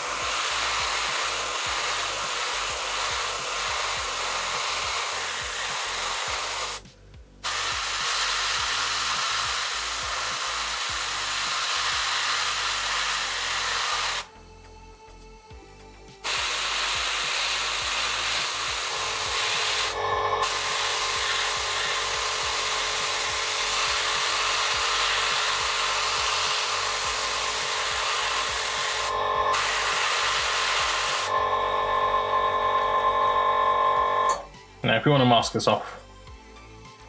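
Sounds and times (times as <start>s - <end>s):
airbrush spray hiss: 0.0s - 14.3s, 16.2s - 33.1s.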